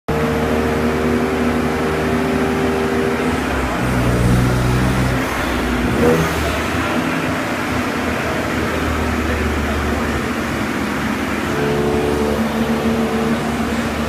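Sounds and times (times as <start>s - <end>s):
car engine running steadily: 0.1s - 14.0s
large cooling fan humming: 0.1s - 14.0s.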